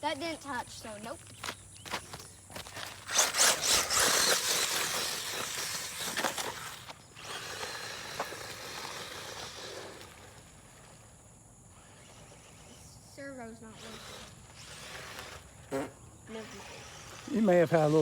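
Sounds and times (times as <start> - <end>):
toy truck tyres crunching gravel: 0.0 - 18.0.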